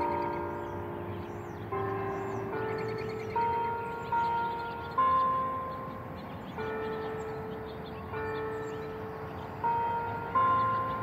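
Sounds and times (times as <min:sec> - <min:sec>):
church bells playing slow tune: 0:00.0 - 0:11.0.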